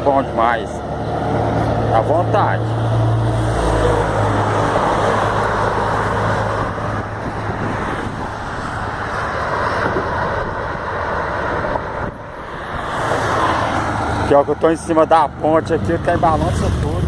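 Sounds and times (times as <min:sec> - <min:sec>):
low engine drone: 0:00.0 - 0:17.0
road traffic passing: 0:00.0 - 0:17.0.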